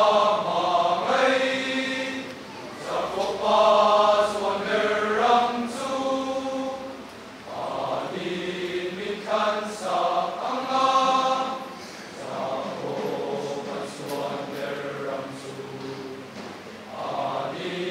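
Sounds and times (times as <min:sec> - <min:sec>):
mixed choir singing: 0:00.0 - 0:17.9.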